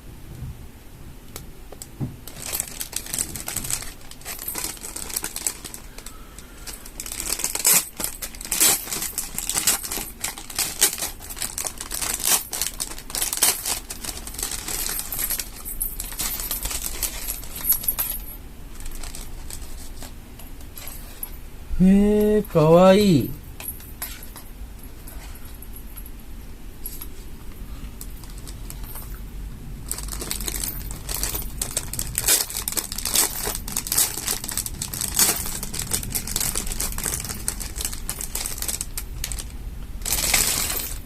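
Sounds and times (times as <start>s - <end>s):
plastic crinkling and rustling: 1.3s - 21.4s, 26.8s - 41.0s.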